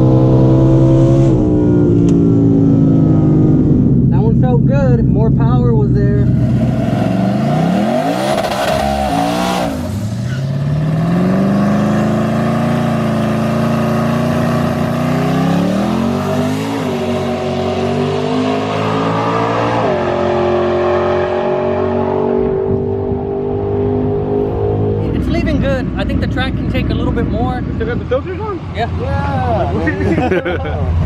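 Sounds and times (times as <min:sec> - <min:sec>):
drag car engine at full throttle: 0:00.0 - 0:31.0.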